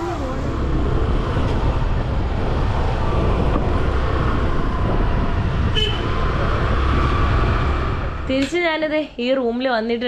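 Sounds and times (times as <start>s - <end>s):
wind buffeting microphone: 0.0s - 9.9s
traffic noise: 0.0s - 10.0s.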